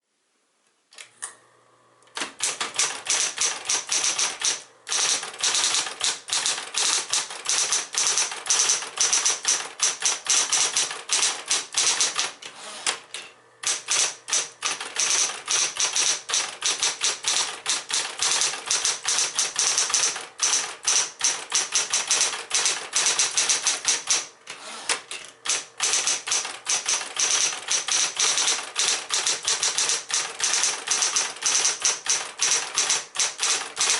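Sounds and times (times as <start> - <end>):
typewriter typebars clattering: 2.2 - 13.0, 13.6 - 24.3, 24.9 - 33.9
typewriter motor humming: 2.2 - 33.9.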